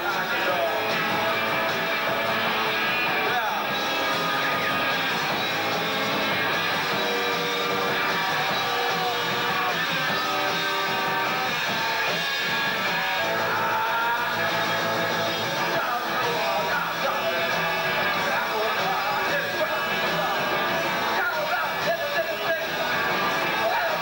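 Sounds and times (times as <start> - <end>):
drums: 0.0 - 24.0
electric guitar: 0.0 - 24.0.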